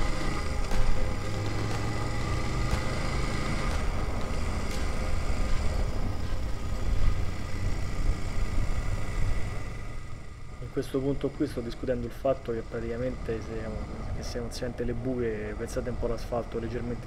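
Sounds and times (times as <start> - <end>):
motorcycle engine riding: 0.0 - 17.0.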